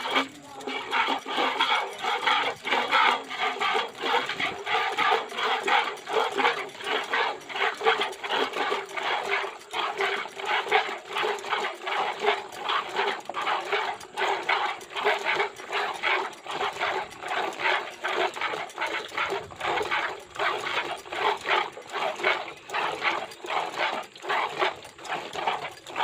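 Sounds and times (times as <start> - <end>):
milk squirting into a steel bucket: 0.0 - 26.0.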